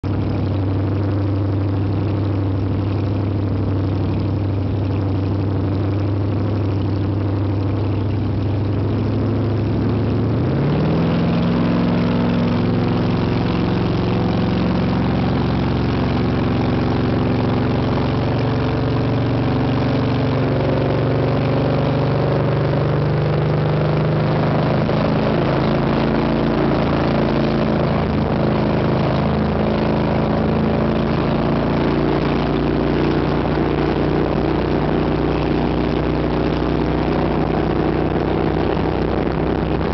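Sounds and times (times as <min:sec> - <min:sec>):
speedboat engine drone: 0:00.0 - 0:39.9.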